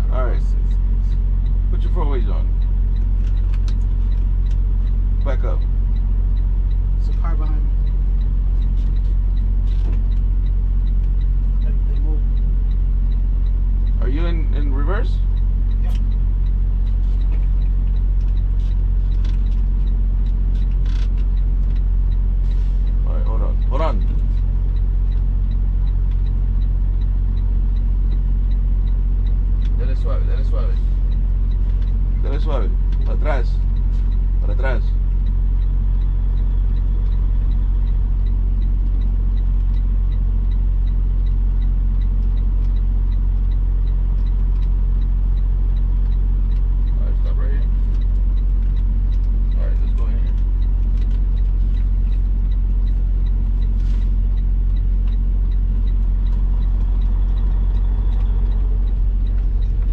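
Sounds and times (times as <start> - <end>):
diesel truck engine idling: 0.0 - 59.9
faint regular ticking: 0.0 - 59.9.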